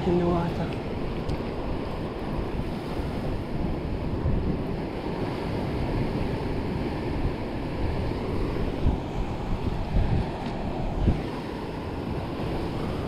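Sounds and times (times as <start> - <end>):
surf washing against rocks: 0.0 - 13.0
wind buffeting microphone: 0.0 - 13.0.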